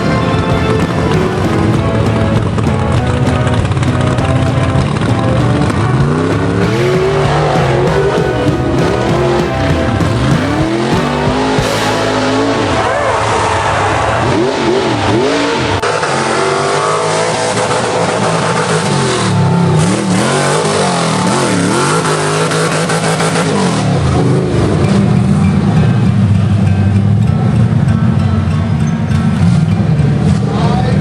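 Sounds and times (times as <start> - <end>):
truck engine revving hard: 0.0 - 25.4.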